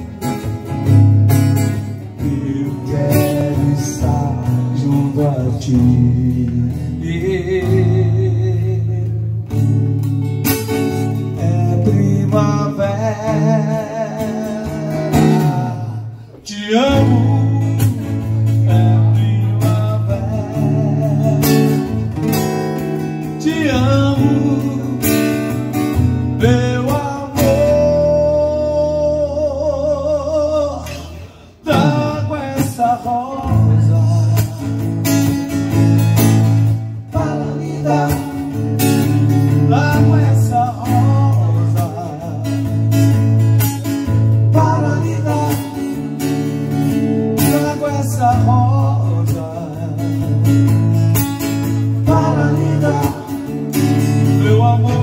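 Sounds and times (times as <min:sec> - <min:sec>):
acoustic guitar strumming: 0:00.0 - 0:55.0
man singing: 0:01.6 - 0:09.9, 0:10.8 - 0:55.0.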